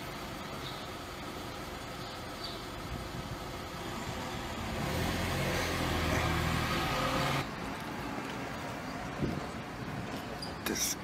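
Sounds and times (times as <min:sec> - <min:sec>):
low engine hum: 0:00.0 - 0:10.4
outdoor background noise: 0:00.0 - 0:11.0.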